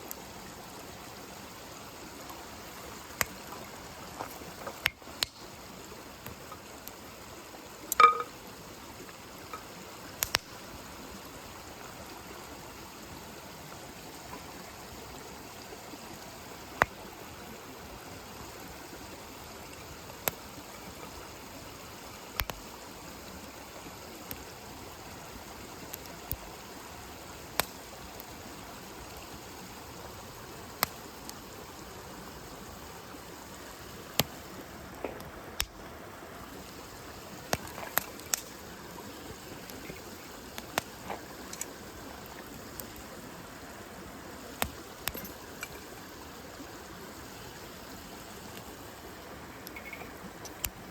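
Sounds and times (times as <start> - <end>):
campfire crackling and hissing: 0.0 - 50.9.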